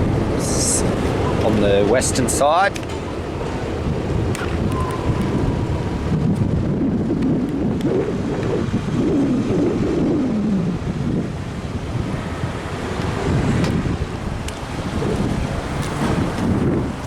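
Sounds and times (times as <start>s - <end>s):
road traffic rumble: 0.0s - 17.0s
wind buffeting microphone: 0.0s - 17.0s.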